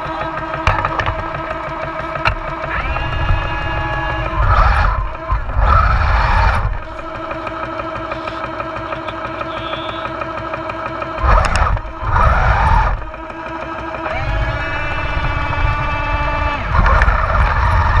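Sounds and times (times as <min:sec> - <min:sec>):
drive motor revving: 0:00.0 - 0:18.0
model tank engine sound: 0:00.0 - 0:18.0.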